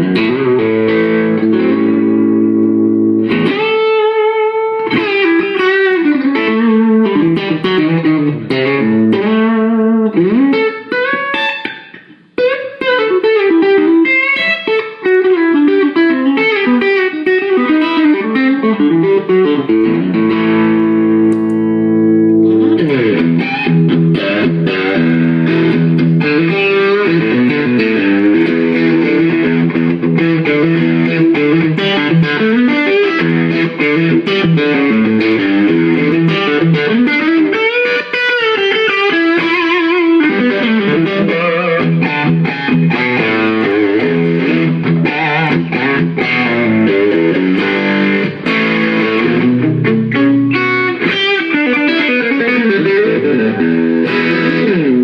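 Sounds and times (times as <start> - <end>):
distorted electric guitar lead: 0.0 - 55.0.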